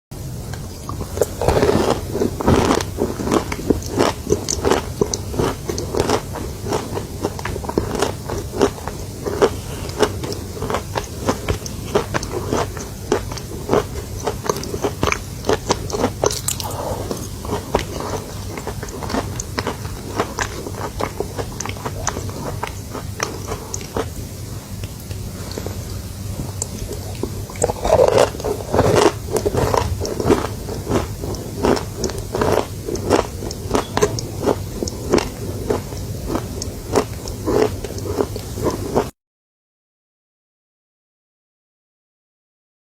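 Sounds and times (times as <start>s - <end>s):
chewing chalk crunches: 0.9s - 39.1s.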